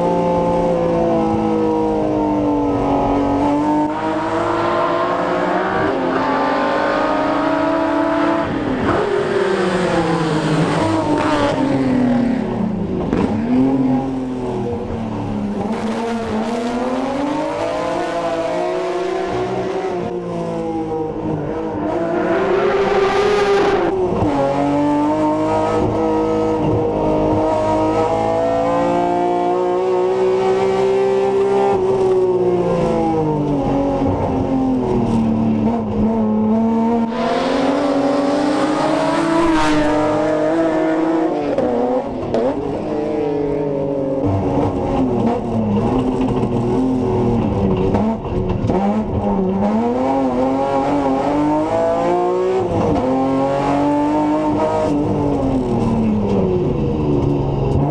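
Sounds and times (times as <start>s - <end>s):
race car engine revving: 0.2s - 57.9s.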